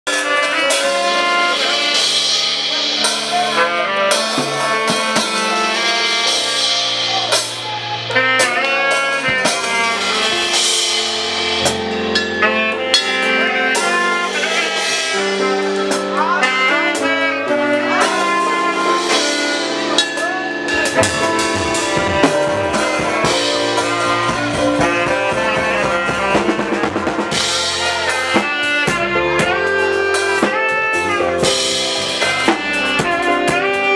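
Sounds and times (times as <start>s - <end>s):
band music: 0.0s - 33.9s
drum kit beat: 0.1s - 33.9s
bass line: 0.2s - 33.9s.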